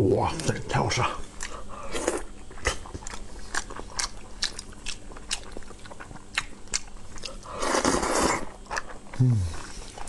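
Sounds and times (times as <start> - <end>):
person chewing food: 1.2 - 10.0.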